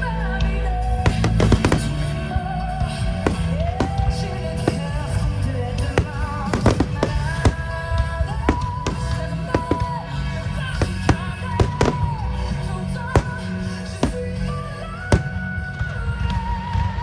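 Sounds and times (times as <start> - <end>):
fireworks bangs: 1.1 - 15.7.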